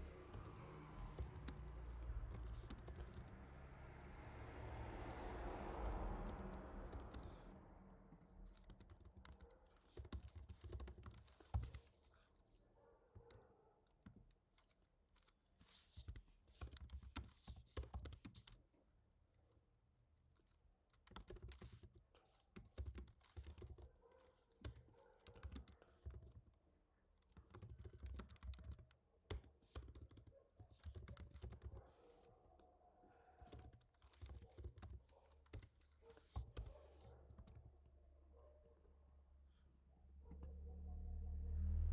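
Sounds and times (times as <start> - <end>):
faint keyboard typing: 0.0 - 3.5, 5.8 - 18.7, 20.3 - 38.1.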